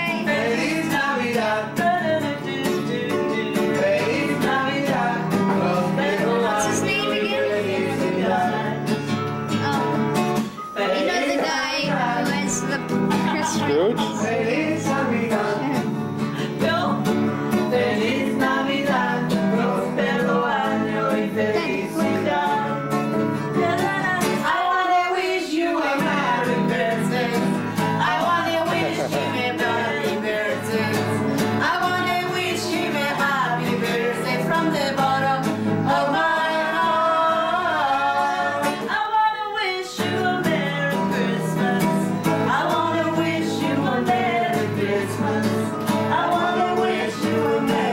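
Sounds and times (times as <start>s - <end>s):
people singing together: 0.0s - 47.9s
strummed acoustic guitar: 0.0s - 47.9s.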